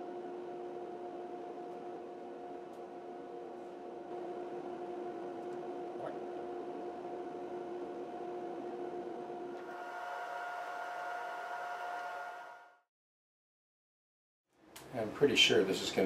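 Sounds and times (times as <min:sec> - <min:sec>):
machine hum with whining tones: 0:00.0 - 0:12.9.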